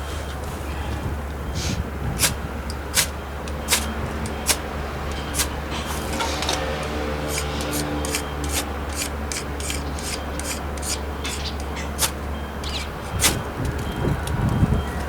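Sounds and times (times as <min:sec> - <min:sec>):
wood fire crackling: 0:01.2 - 0:14.3.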